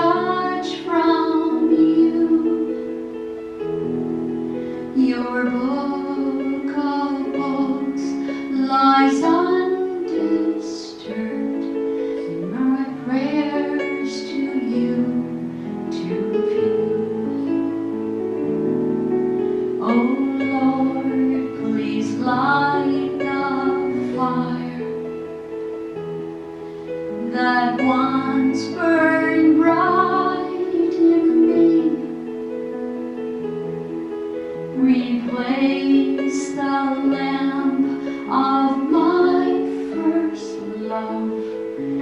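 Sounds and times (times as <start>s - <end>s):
woman singing into a microphone: 0.0s - 3.0s, 4.9s - 18.0s, 19.7s - 25.3s, 27.1s - 32.3s, 34.7s - 42.0s
sustained instrumental chords: 0.0s - 42.0s.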